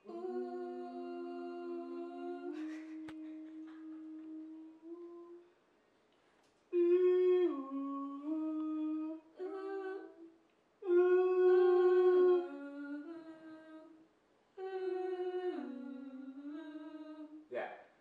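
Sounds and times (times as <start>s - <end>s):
woman and man humming together: 0.0s - 5.5s, 6.7s - 14.0s, 14.6s - 17.5s.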